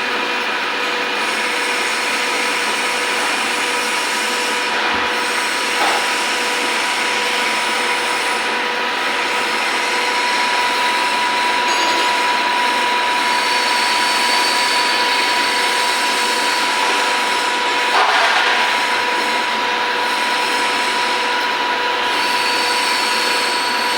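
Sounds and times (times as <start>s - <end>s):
lathe whining: 0.0s - 23.9s.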